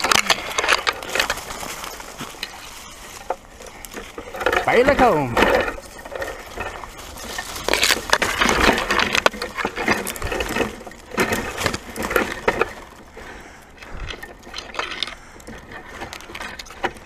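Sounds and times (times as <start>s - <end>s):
twigs and leaves crackling: 0.0s - 17.0s.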